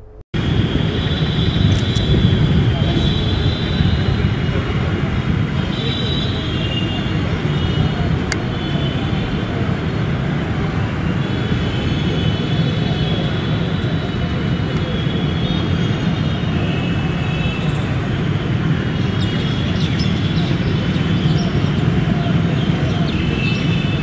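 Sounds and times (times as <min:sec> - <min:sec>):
open-air low rumble: 0:00.0 - 0:24.0.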